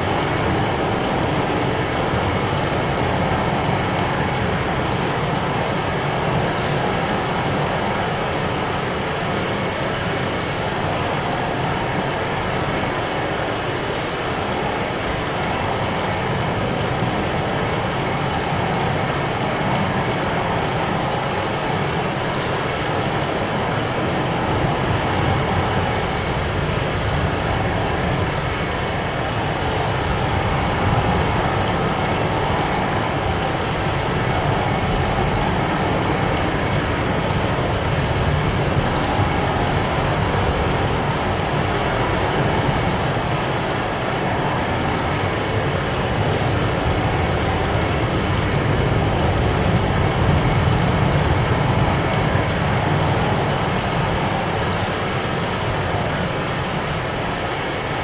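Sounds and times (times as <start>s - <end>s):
strong storm wind rushing: 0.0s - 58.0s.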